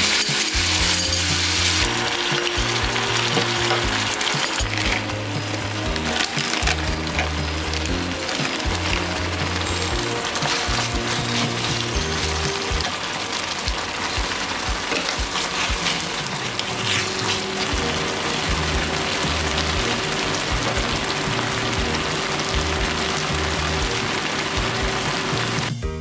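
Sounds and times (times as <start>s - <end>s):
wooden spatula stirring: 0.0s - 25.6s
stew bubbling and sizzling in a pan: 0.0s - 25.7s
background music: 0.0s - 26.0s.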